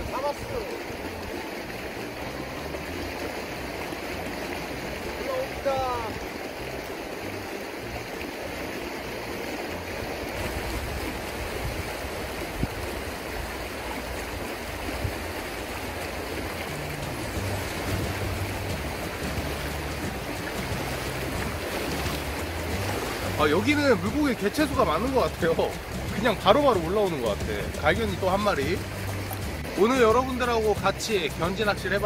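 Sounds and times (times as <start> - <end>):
shallow river rushing: 0.0 - 32.0.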